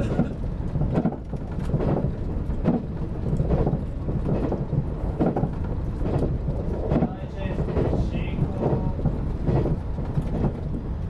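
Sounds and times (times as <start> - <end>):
train wheel clack: 0.0 - 11.0
train wheels and motors rumbling: 0.0 - 11.0.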